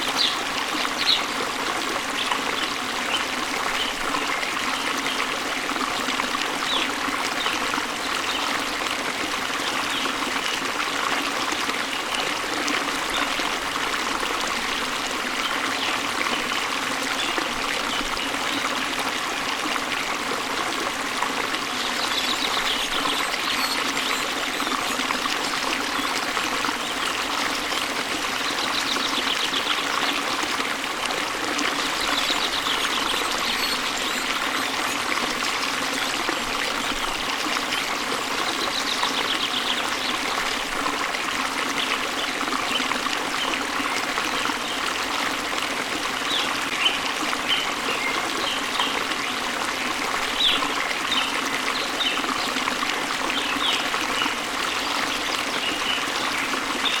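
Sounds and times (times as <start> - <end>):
waterfall and flowing stream: 0.0 - 57.0.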